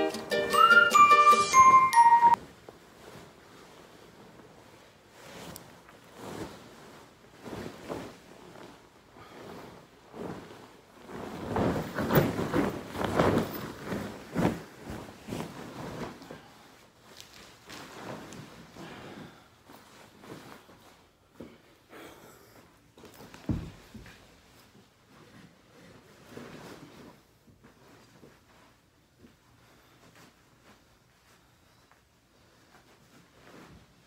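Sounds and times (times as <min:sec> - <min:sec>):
bed linen rustling: 0:00.0 - 0:34.0.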